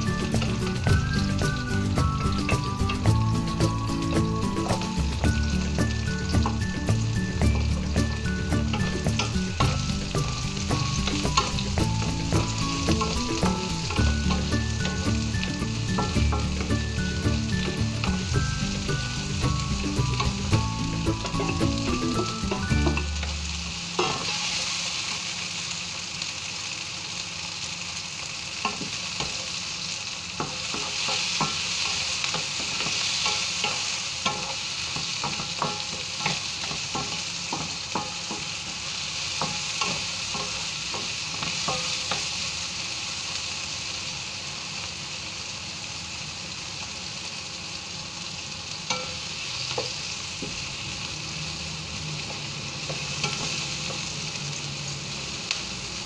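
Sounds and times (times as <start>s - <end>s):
vegetables sizzling in a frying pan: 0.0s - 56.0s.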